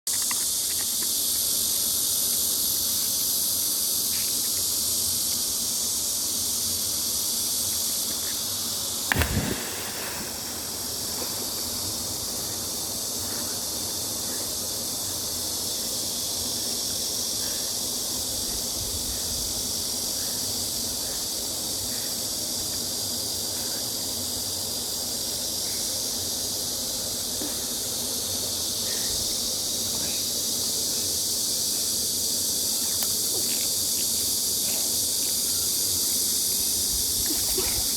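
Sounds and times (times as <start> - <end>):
insects buzzing: 0.1 - 37.9.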